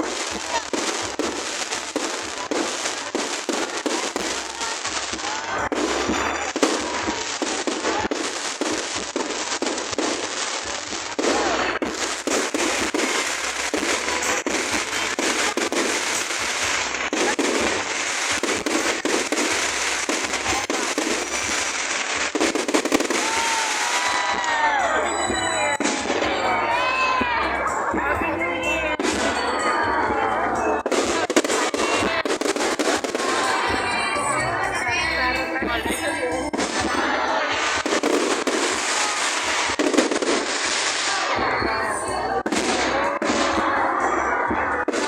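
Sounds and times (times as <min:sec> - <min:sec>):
fireworks bursting and crackling: 0:00.0 - 0:45.0.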